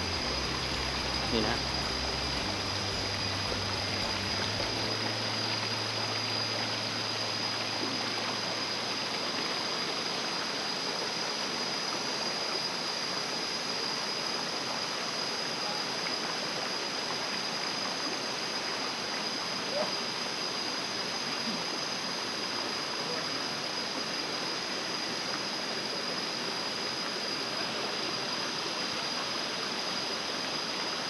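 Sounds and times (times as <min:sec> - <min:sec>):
stream rushing: 0:00.0 - 0:31.0
thin high whine: 0:00.0 - 0:31.0.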